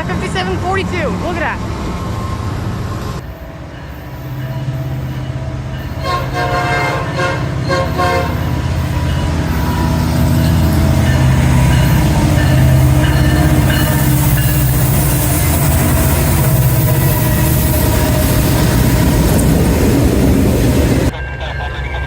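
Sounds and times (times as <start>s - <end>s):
diesel locomotive engine rumble: 0.0s - 22.0s
rush of wheels on rails: 0.0s - 22.0s.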